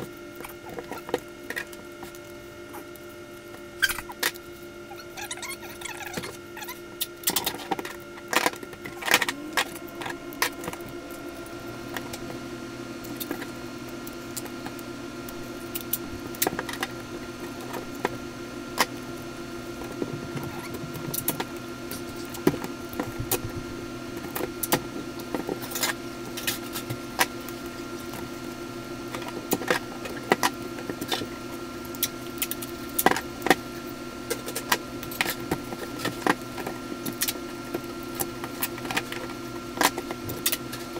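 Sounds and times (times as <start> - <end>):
steady hum: 0.0 - 40.9.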